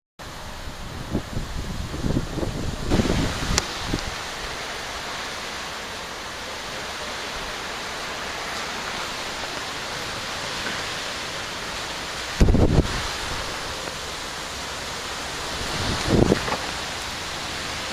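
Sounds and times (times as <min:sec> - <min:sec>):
low gusty rumbles: 0:00.2 - 0:17.9
steady rushing noise: 0:00.2 - 0:17.9.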